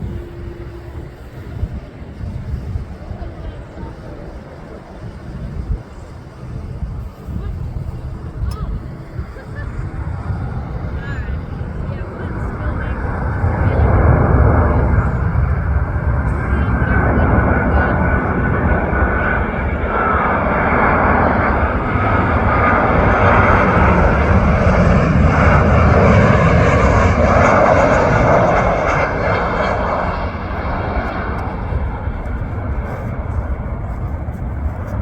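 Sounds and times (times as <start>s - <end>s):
jet airliner engine roar: 0.0s - 35.0s.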